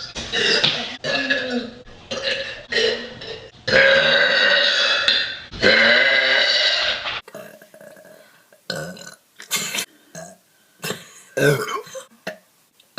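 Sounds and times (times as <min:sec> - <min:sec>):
girl burping loudly: 0:00.0 - 0:12.4.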